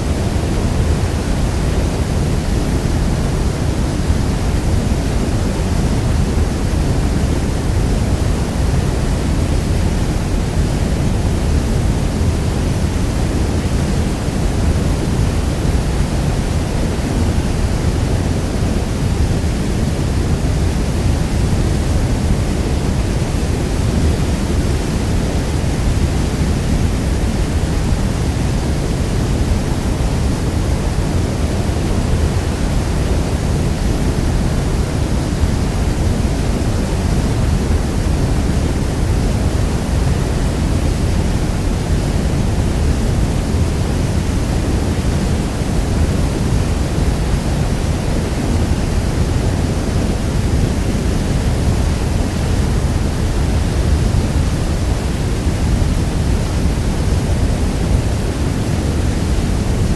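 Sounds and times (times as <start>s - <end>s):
waterfall thundering: 0.0s - 59.9s.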